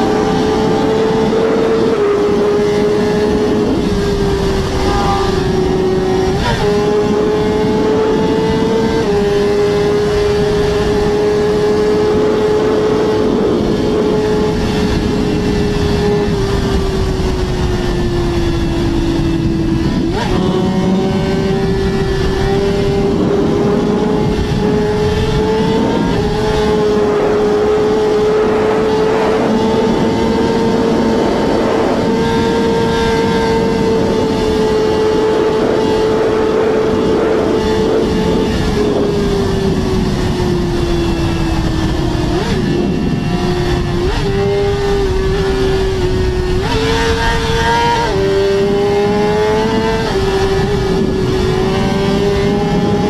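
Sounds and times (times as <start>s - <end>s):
motorbike engine at high revs: 0.0s - 53.0s.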